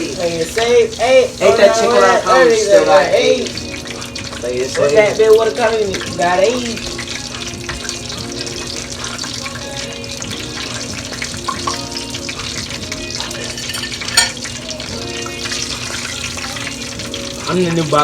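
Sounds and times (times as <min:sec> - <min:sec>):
background music: 0:00.0 - 0:18.0
chicken frying in hot oil: 0:00.0 - 0:18.0.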